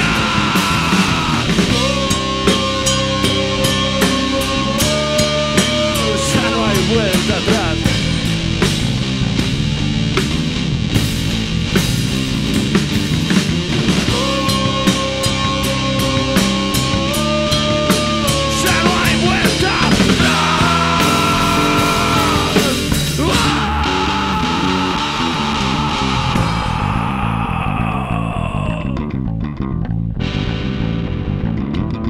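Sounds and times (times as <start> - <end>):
rock band playing live: 0.0 - 29.4, 30.0 - 32.0
bending lead guitar notes: 0.0 - 32.0.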